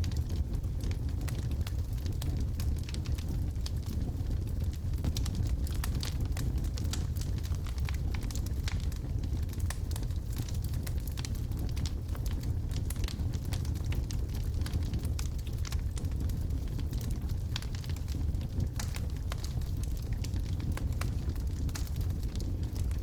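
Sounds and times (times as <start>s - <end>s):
burning logs crackling and popping: 0.0s - 23.0s
fireplace flames rumbling: 0.0s - 23.0s.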